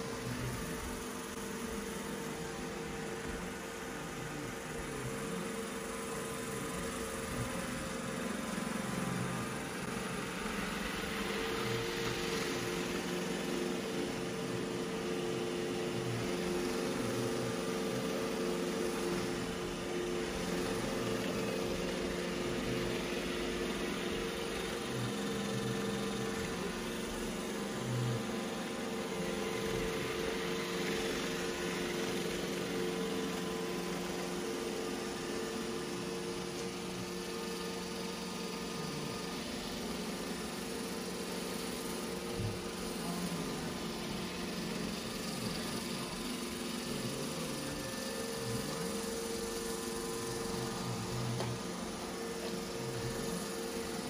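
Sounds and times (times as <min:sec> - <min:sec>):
robot vacuum motor whirring: 0:00.0 - 0:54.0.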